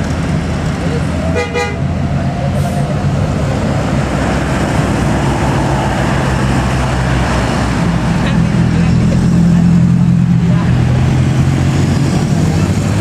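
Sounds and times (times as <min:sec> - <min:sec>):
bus engine passing: 0:00.0 - 0:13.0
road and tyre noise: 0:00.0 - 0:13.0.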